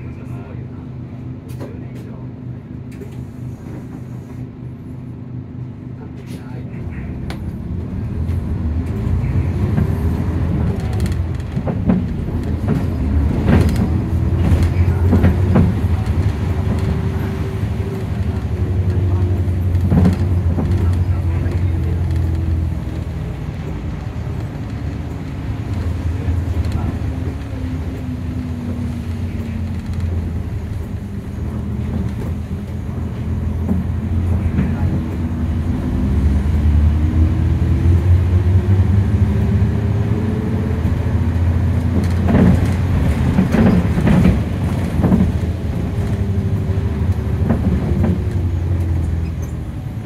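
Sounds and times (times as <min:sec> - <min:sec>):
bus body rattling: 0:00.0 - 0:50.0
bus diesel engine drone: 0:00.0 - 0:50.0.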